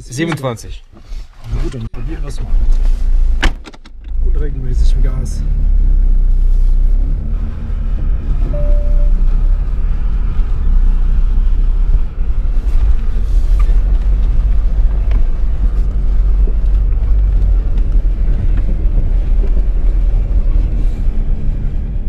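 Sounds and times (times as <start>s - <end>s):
diesel engine rumbling while driving: 4.0s - 22.0s.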